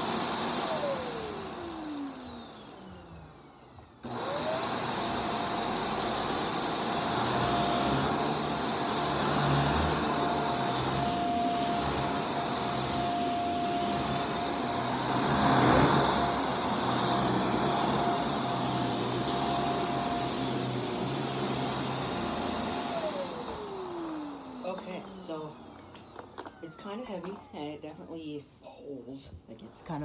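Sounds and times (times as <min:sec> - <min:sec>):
upright vacuum cleaner running: 0:00.0 - 0:28.3.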